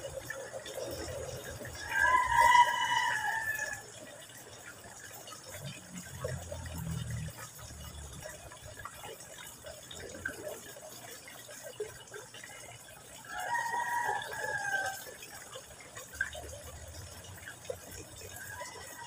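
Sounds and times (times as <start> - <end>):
water trickling into pond: 0.0 - 19.0.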